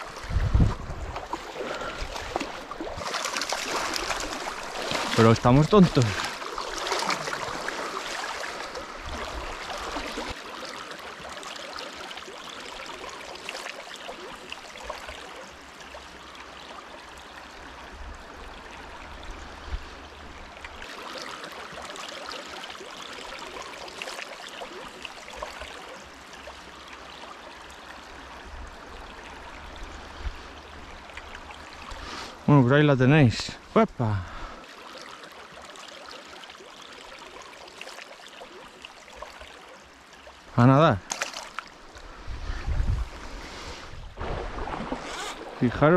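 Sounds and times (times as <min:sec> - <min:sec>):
river water running over stones: 0:00.0 - 0:45.9.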